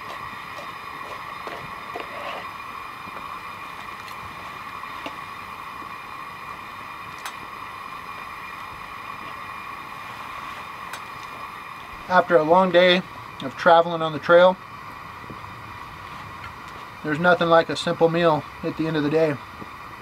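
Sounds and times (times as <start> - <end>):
gas flame hissing: 0.0 - 20.0.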